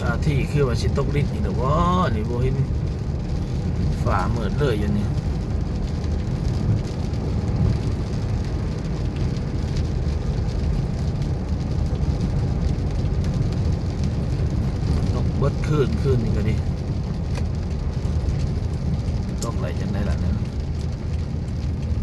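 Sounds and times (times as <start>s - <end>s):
heavy rain: 0.0s - 22.0s
low rumble of road traffic: 0.0s - 22.0s.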